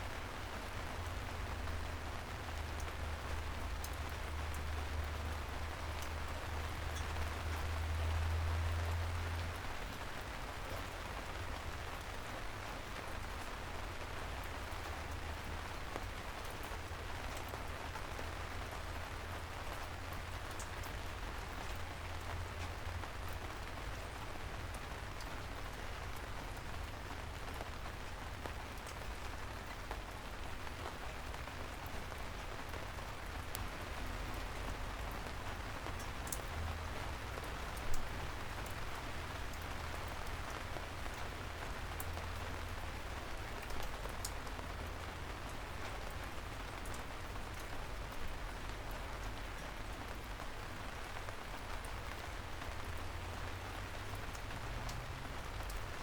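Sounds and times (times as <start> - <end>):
soft rain falling: 0.0 - 56.0.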